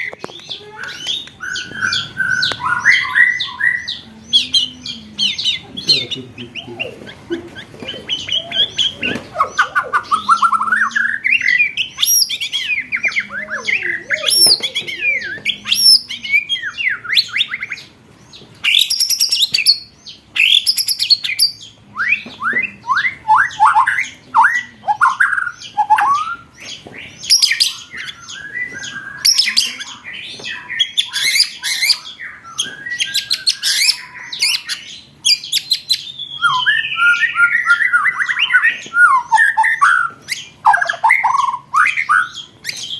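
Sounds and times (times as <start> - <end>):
songbird trilling and chattering: 0.0 - 17.8, 18.6 - 42.9.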